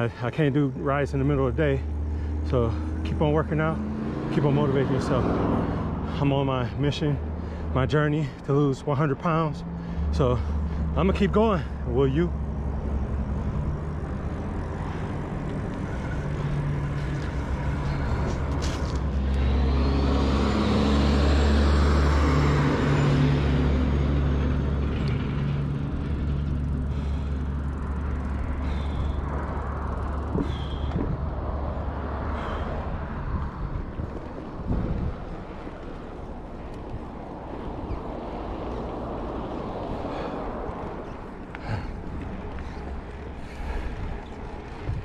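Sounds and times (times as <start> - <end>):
diesel truck passing: 0.0 - 45.0
road traffic: 0.0 - 45.0.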